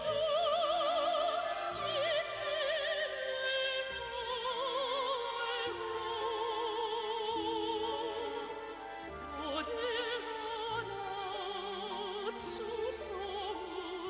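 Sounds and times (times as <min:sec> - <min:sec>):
orchestral music: 0:00.0 - 0:14.0.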